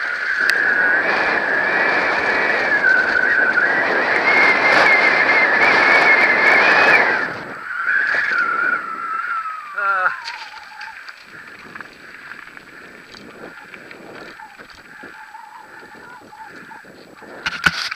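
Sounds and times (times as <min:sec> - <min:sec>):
high wavering whine: 0:00.0 - 0:17.9
tyre and wind rush: 0:00.0 - 0:17.9.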